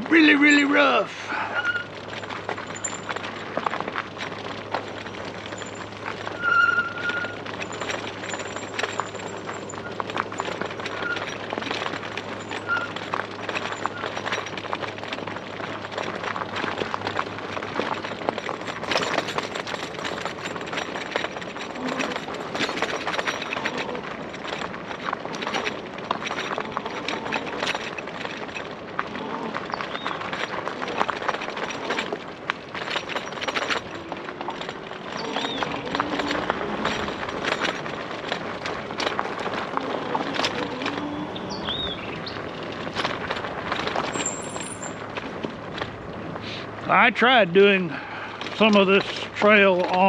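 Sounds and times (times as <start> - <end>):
bike clattering over bumps: 0.0 - 50.0
bike tyres crunching over rocks: 0.0 - 50.0.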